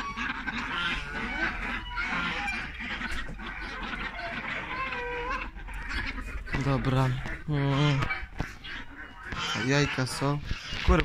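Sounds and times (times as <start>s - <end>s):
ducks and chickens calling: 0.0s - 11.0s.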